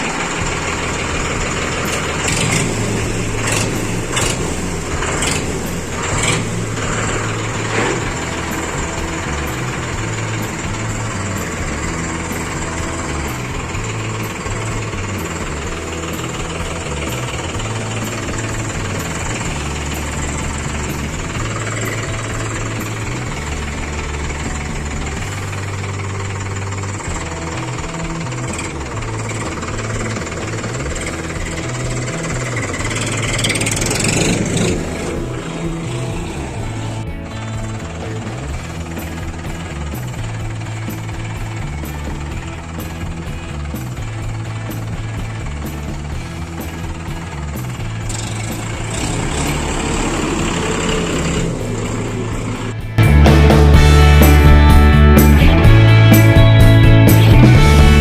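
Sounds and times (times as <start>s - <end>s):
sharp knocks and clanks: 0.0s - 57.6s
tractor diesel engine idling: 0.0s - 58.0s.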